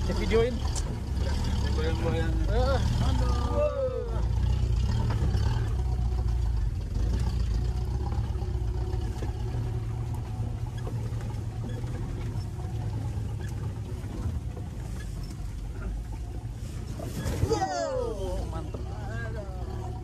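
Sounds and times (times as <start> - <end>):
off-road vehicle engine rumble: 0.0 - 20.0.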